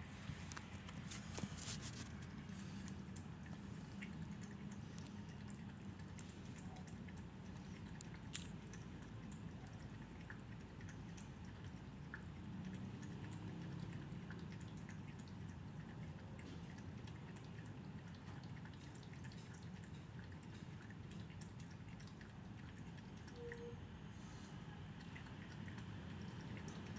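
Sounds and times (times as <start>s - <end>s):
cat lapping water: 0.0s - 26.9s.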